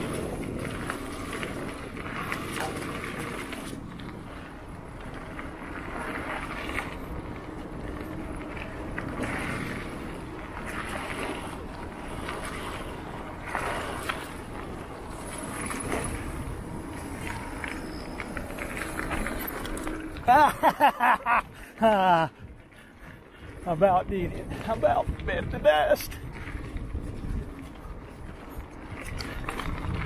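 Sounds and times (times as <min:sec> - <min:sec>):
bike tyres on dirt: 0:00.0 - 0:30.0.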